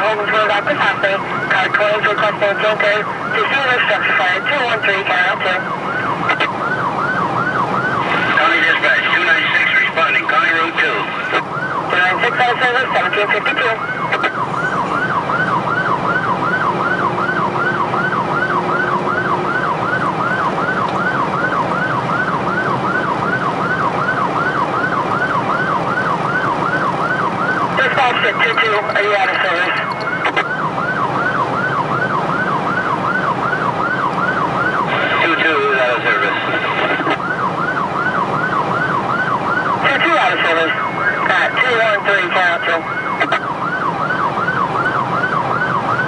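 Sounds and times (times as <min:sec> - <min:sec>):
road and engine rumble: 0:00.0 - 0:46.0
siren yelping: 0:00.1 - 0:46.0.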